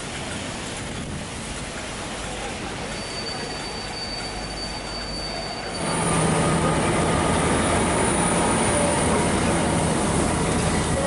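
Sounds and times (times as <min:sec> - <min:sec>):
steam hiss: 0:00.0 - 0:11.0
train rumble: 0:00.0 - 0:11.0.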